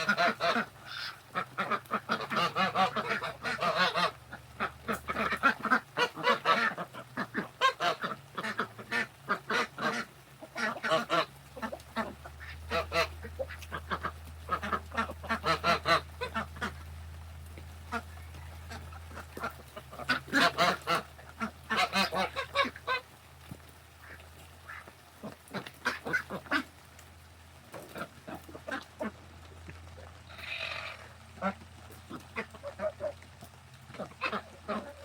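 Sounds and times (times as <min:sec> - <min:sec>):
ducks and geese quacking and honking: 0:00.0 - 0:35.0.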